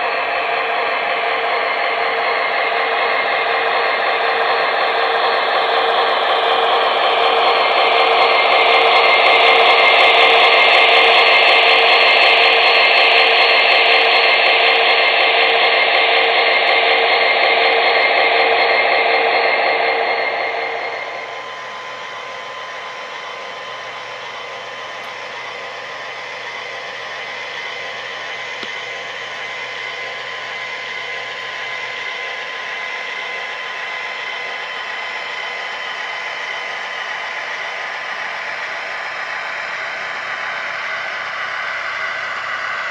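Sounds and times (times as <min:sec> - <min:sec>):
mechanical hum: 0:00.0 - 0:42.9
model locomotive running: 0:00.0 - 0:42.9.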